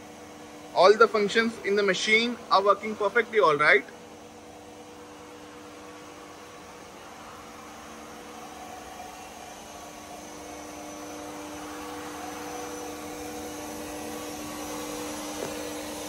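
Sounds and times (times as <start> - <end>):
lathe humming with faint whine: 0.0 - 16.0.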